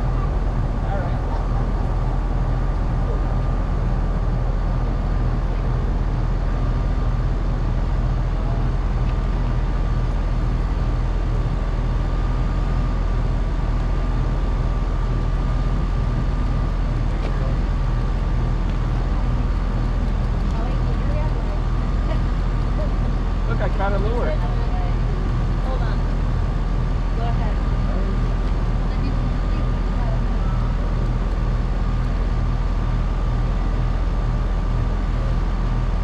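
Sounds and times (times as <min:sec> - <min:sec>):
boat motor droning: 0:00.0 - 0:36.0
thin steady whine: 0:00.0 - 0:36.0.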